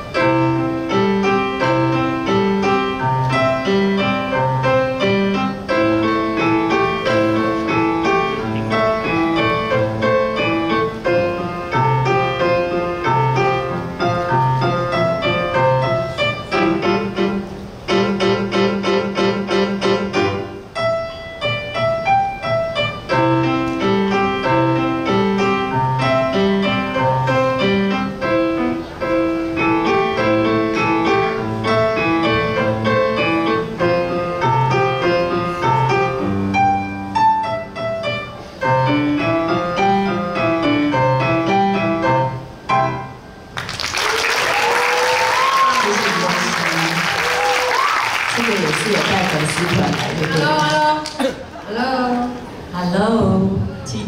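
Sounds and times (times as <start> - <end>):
solo piano piece: 0.0 - 51.6.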